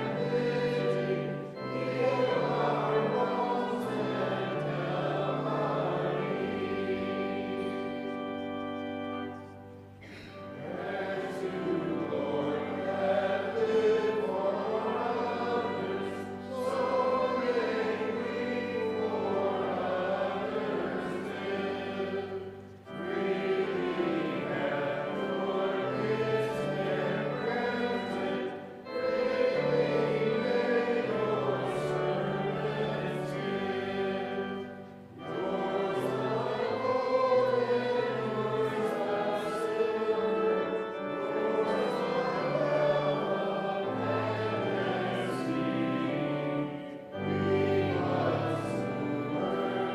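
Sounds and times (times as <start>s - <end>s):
congregation singing a hymn: 0.0s - 49.9s
held accompaniment chords: 0.0s - 49.9s.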